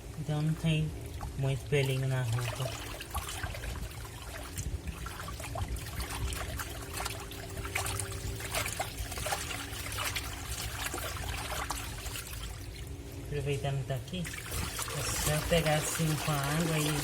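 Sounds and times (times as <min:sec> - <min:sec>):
faint steady hum: 0:00.0 - 0:17.0
water splashing in washing machine: 0:00.0 - 0:17.0.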